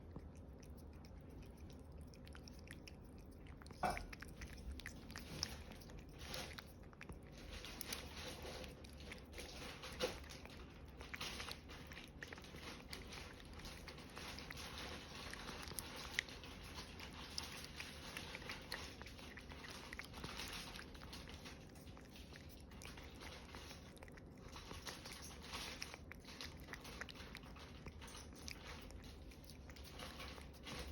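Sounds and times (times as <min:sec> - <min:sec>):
cat licking and chewing: 0:00.0 - 0:30.9.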